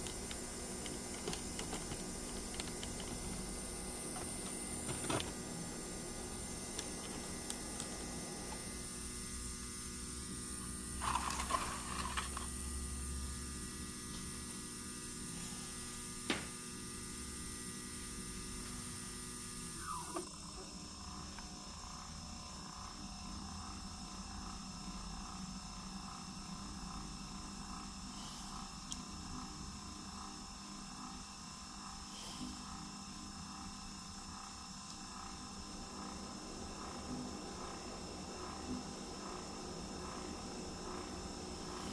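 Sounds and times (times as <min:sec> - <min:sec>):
machine motor hum and whine: 0:00.0 - 0:41.9.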